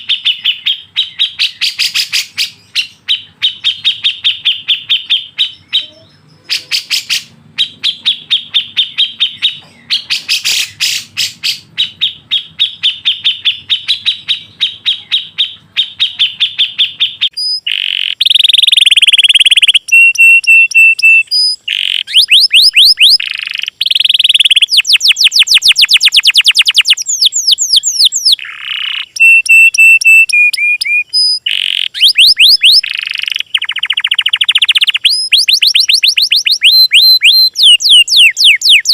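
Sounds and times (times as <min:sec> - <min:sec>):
repeated bird chip notes: 0:00.0 - 0:38.9
songbird whistles and trills: 0:00.0 - 0:38.9.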